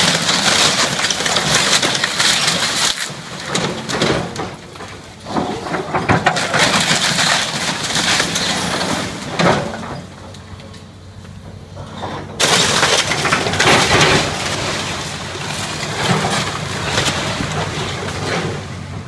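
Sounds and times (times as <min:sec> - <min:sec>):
wood cracking and crashing down: 0:00.0 - 0:10.8, 0:12.4 - 0:19.0.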